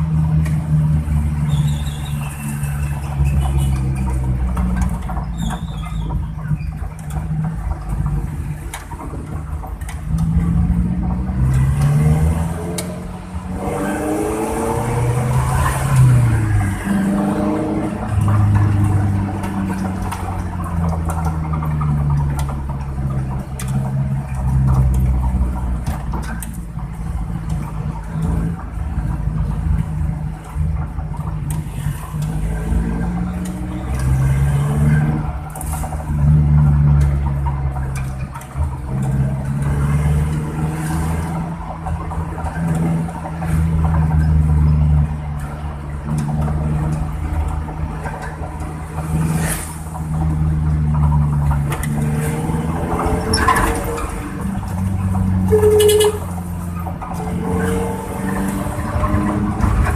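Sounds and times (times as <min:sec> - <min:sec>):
engine and exhaust growling: 0:00.0 - 0:59.9.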